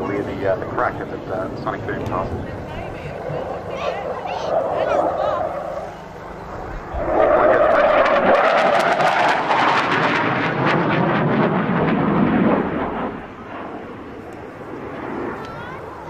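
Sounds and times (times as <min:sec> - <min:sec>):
jet passing overhead: 0:00.0 - 0:16.0.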